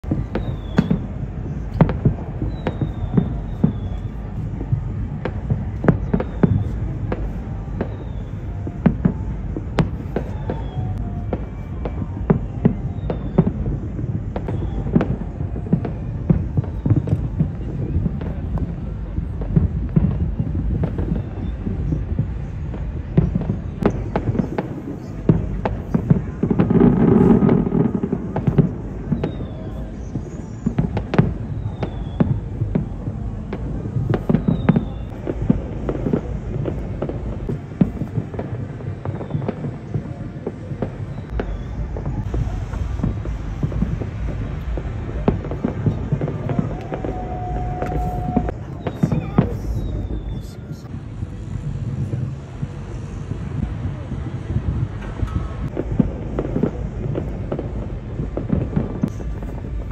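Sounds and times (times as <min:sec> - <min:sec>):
fireworks bangs: 0:00.0 - 0:59.9
low rumble: 0:00.0 - 0:59.9.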